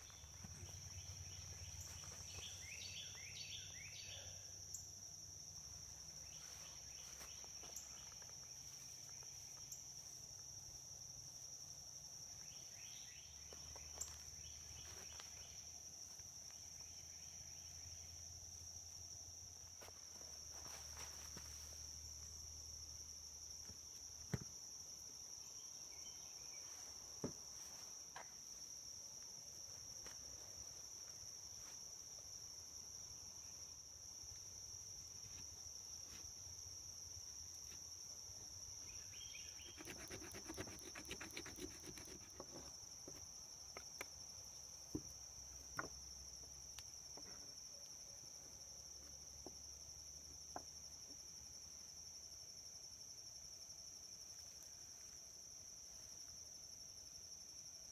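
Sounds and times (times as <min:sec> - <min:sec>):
insects chirping chorus: 0:00.0 - 0:57.9.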